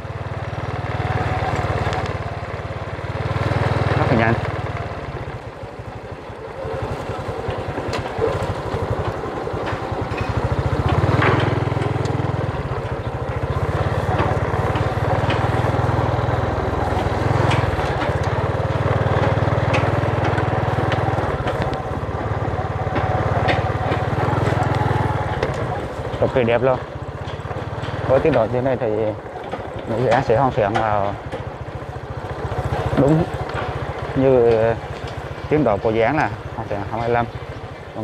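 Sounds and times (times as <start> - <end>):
small motorbike engine: 0.0 - 38.0.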